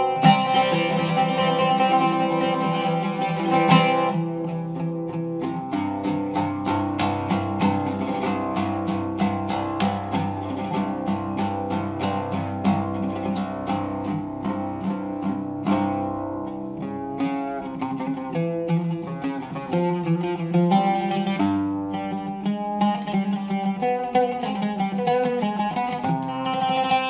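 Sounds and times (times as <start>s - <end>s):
solo oud improvisation: 0.0s - 27.0s.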